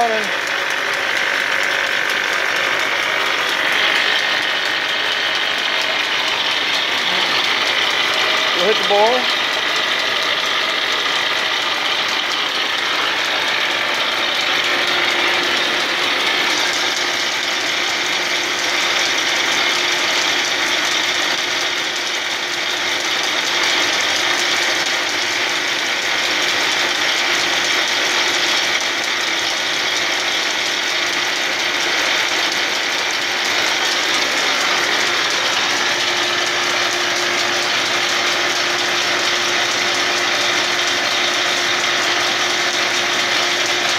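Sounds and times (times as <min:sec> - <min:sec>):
gears and belts running: 0:00.0 - 0:43.9
steady machine hum: 0:00.0 - 0:43.9.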